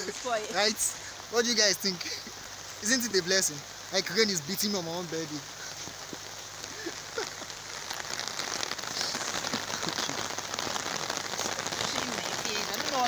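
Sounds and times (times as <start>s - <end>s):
heavy rain on umbrella: 0.0s - 13.0s.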